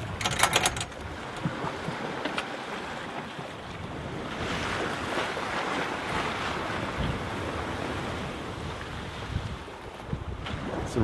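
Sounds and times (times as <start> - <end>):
ocean waves breaking: 0.0 - 11.0
wind on microphone: 0.0 - 11.0.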